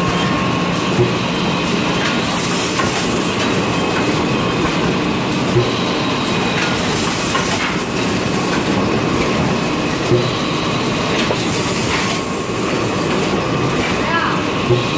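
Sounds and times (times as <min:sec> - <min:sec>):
machine clatter: 0:01.9 - 0:10.4, 0:11.0 - 0:14.9.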